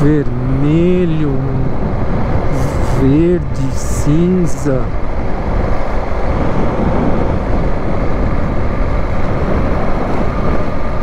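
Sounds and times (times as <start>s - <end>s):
motorcycle engine rumble: 0.0s - 11.0s
wind rushing over microphone: 0.0s - 11.0s.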